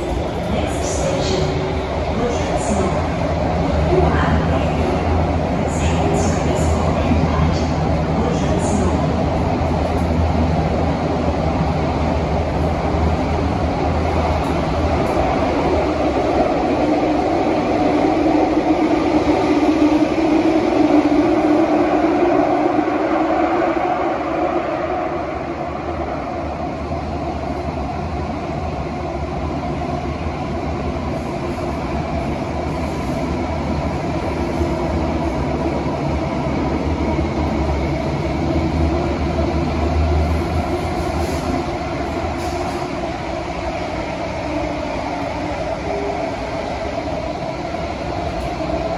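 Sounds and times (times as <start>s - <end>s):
metro train rumble and hum: 0.0s - 48.9s.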